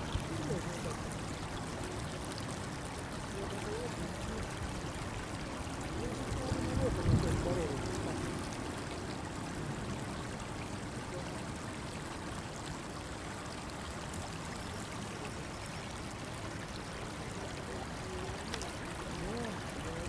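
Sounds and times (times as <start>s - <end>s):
small river flowing: 0.0s - 20.0s.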